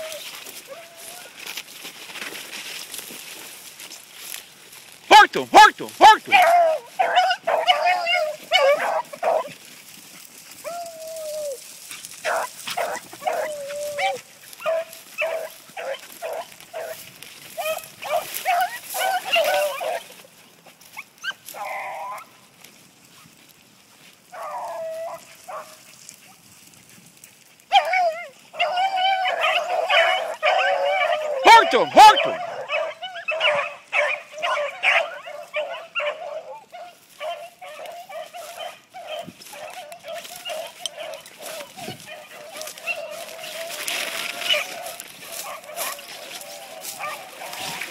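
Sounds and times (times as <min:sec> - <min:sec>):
hounds yelping: 0:00.0 - 0:01.6, 0:05.1 - 0:22.6, 0:24.0 - 0:47.9
hounds baying: 0:05.1 - 0:22.5, 0:24.0 - 0:47.9.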